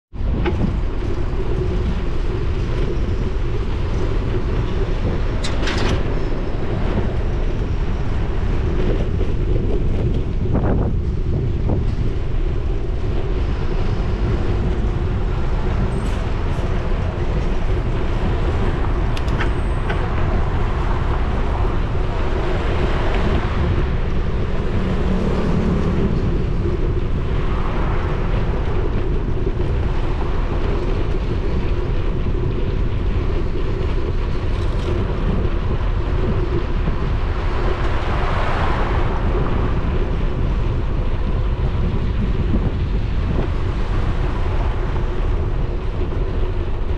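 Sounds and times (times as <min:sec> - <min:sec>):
wind buffeting microphone: 0:00.1 - 0:46.9
road traffic: 0:00.2 - 0:46.9.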